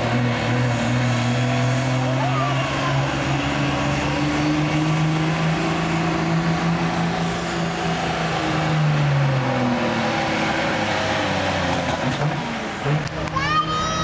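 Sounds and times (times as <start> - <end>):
diesel truck engine revving: 0.0 - 14.0.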